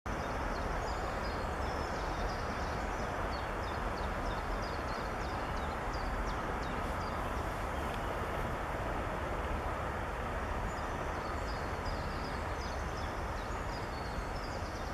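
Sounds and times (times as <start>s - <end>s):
outdoor background rumble and hiss: 0.1s - 14.9s.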